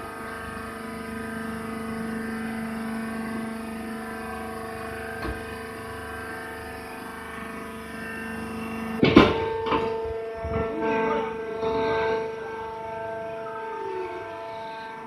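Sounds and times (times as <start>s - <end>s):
electric motor and pump humming: 0.0s - 15.0s.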